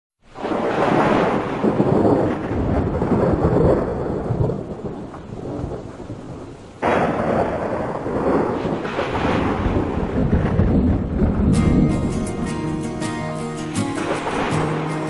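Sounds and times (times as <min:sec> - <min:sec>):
steady rain: 0:00.2 - 0:15.0
rolling thunder: 0:00.3 - 0:15.0
thunderclap: 0:00.3 - 0:15.0.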